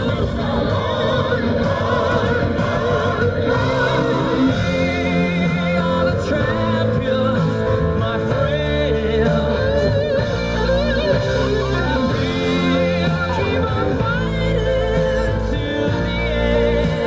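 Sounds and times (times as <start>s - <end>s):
guitar: 0.0s - 17.0s
person singing with vibrato: 0.0s - 17.0s
steady bass line: 0.0s - 17.0s.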